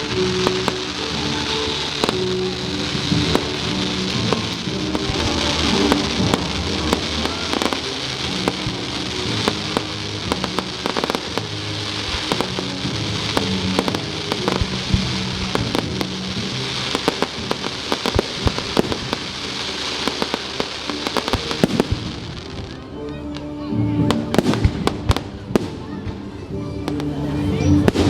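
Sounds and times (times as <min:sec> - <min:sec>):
fireworks fizzing hiss: 0:00.0 - 0:22.9
fireworks crackling and banging: 0:00.0 - 0:28.0
music playing: 0:00.0 - 0:28.0.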